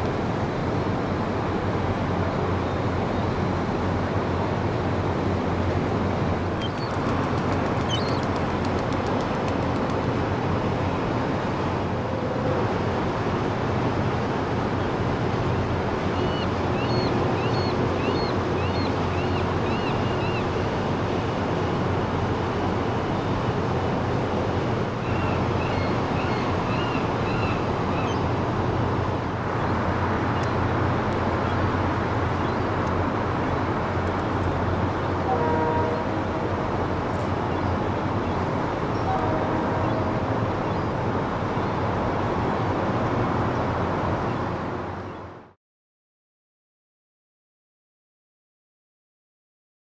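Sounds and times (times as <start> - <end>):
water noise: 0.0 - 45.3
wind: 0.0 - 45.6.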